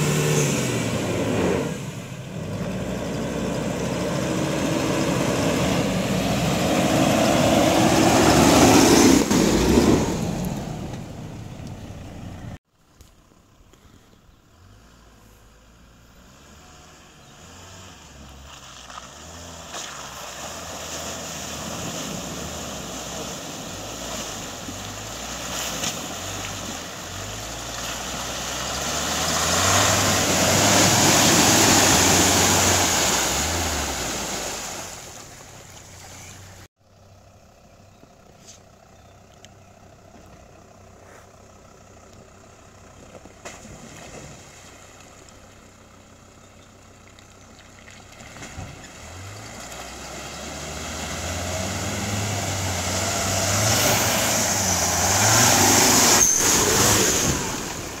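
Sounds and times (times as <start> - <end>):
suv engine driving off-road: 0.0 - 58.0.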